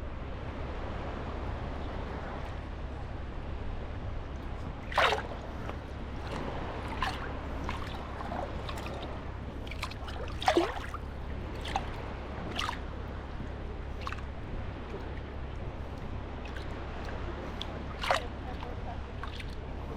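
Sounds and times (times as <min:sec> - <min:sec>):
small waves lapping at shoreline: 0:00.0 - 0:19.9
steady low rumble: 0:00.0 - 0:19.9.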